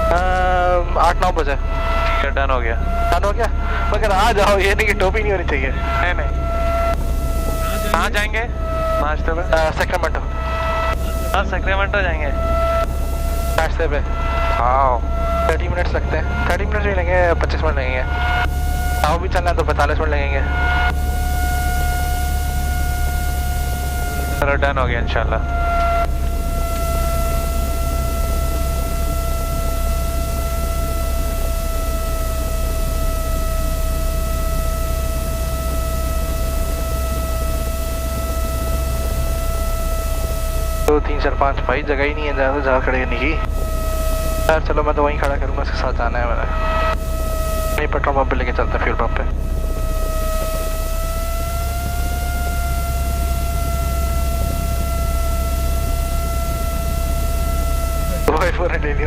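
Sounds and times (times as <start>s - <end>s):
high-pitched whine: 0.0s - 59.0s
light aircraft engine drone: 0.0s - 59.0s.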